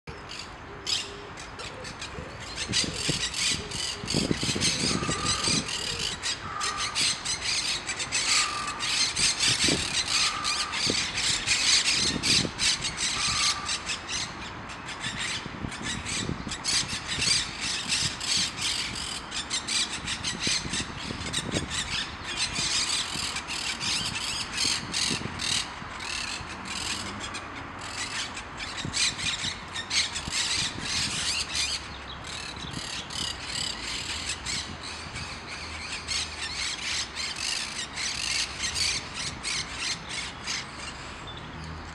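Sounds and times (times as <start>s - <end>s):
parakeets squawking: 1.9s - 41.0s.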